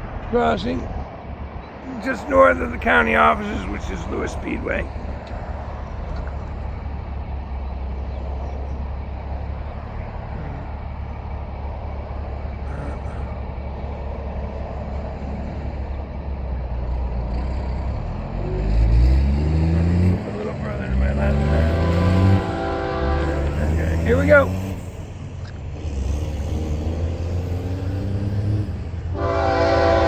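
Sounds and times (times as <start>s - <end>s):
motor vehicles idling: 0.0s - 30.0s
road traffic rumble: 0.0s - 30.0s.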